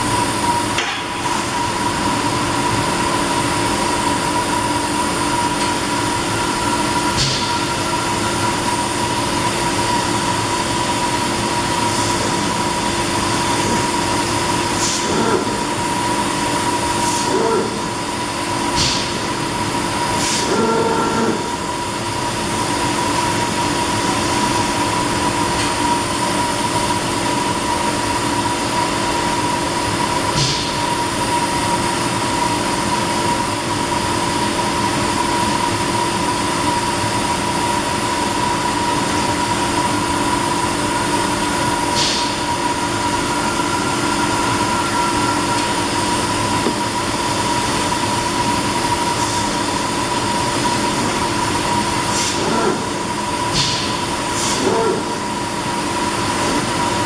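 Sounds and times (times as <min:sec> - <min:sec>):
laser cutting machine hum: 0:00.0 - 0:57.0.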